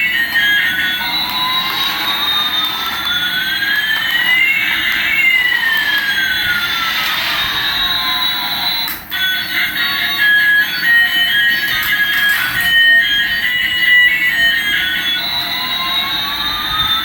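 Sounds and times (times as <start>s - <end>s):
toy jet engine sound effect: 0.0s - 17.0s.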